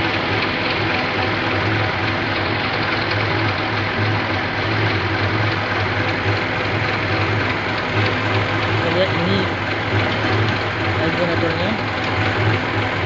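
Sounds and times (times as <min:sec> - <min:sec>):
forklift engine idling: 0:00.0 - 0:13.0.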